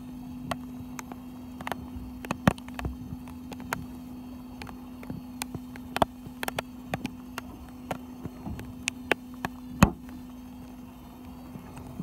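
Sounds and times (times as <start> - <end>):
boat engine humming: 0.0 - 12.0
rain tapping: 0.4 - 10.2.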